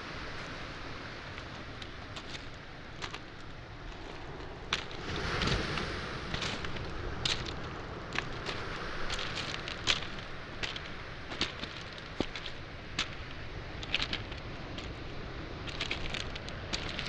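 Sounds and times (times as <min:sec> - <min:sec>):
waves washing on shore: 0:00.0 - 0:17.0
footsteps on pebbles: 0:00.2 - 0:17.0.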